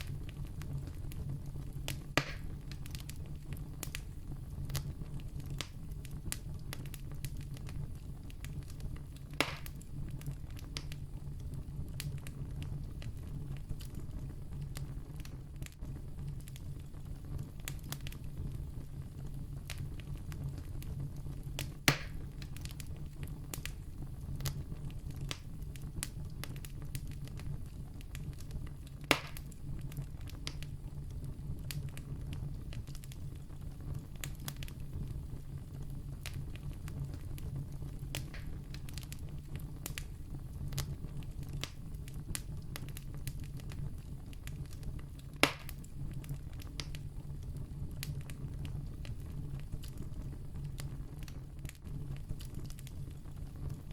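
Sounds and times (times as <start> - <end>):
campfire crackling: 0.0 - 53.9
fire popping: 0.0 - 53.9.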